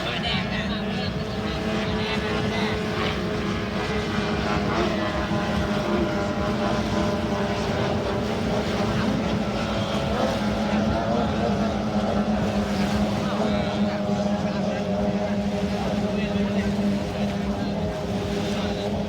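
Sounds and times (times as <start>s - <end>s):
outboard engines droning: 0.0s - 19.0s.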